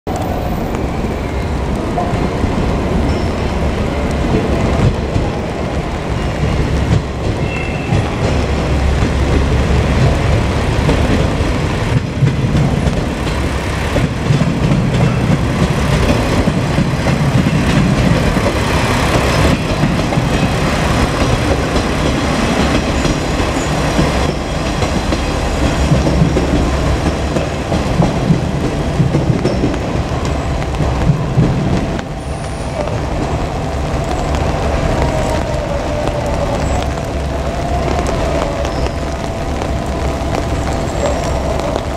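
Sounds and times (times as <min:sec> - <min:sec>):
train wheels rolling on rails: 0:00.1 - 0:41.9.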